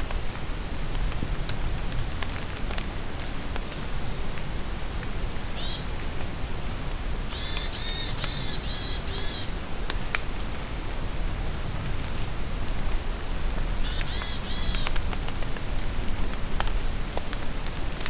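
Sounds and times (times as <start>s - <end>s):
rain falling in forest: 0.0s - 18.0s.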